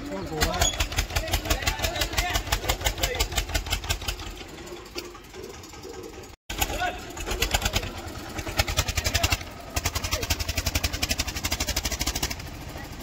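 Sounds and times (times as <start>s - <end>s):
tractor diesel engine chugging: 0.0s - 13.0s.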